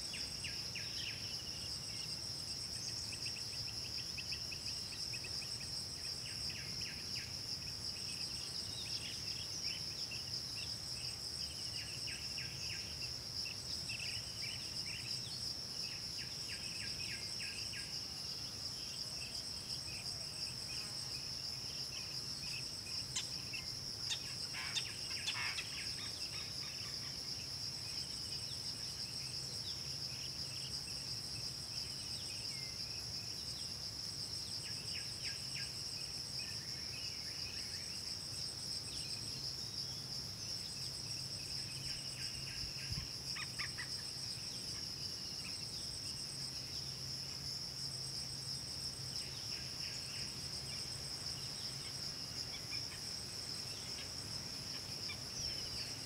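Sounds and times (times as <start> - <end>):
pulsing insect call: 0.0 - 56.0.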